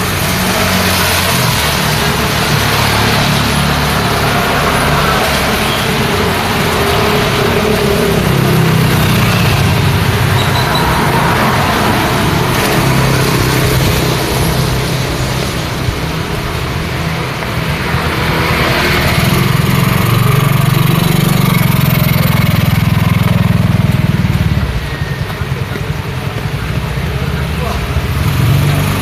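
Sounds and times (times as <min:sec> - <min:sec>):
vehicle engines running: 0:00.0 - 0:29.0.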